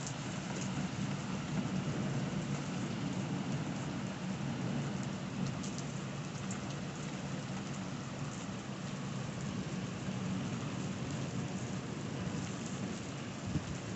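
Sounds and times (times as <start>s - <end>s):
heavy rain on pavement: 0.0s - 13.9s.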